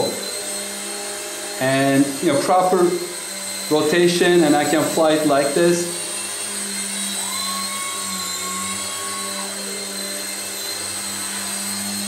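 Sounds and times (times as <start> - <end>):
rc helicopter rotors whirring: 0.0 - 12.0.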